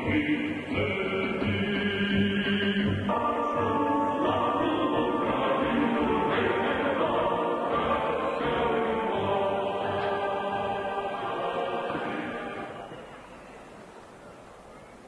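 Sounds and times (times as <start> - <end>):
choir singing with accompaniment: 0.0 - 13.0.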